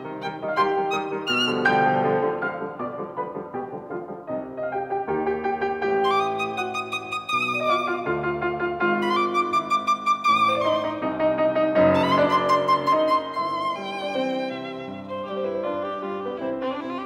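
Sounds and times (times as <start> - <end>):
violin melody: 0.0 - 4.0, 4.7 - 17.0
light piano accompaniment: 0.0 - 17.0.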